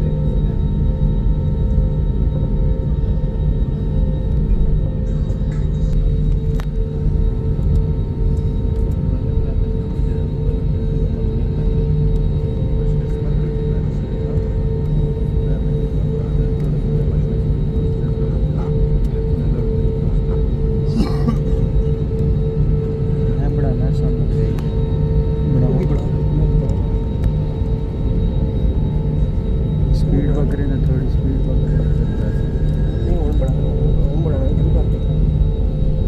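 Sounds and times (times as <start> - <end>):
jet engine cabin drone: 0.0 - 36.0.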